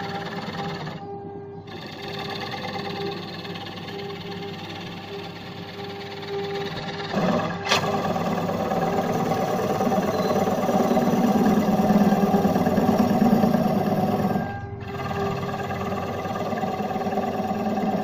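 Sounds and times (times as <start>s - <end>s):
turning tool cutting wood: 0.0s - 1.0s, 1.7s - 18.0s
wood lathe motor hum: 0.0s - 18.0s.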